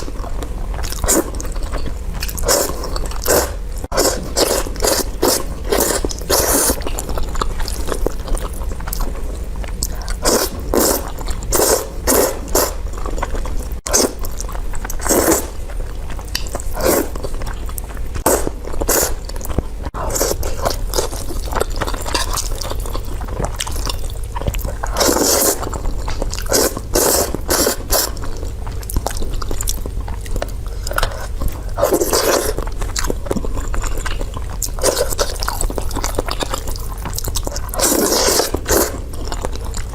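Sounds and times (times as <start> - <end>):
chewing with wet smacking: 0.0 - 39.9.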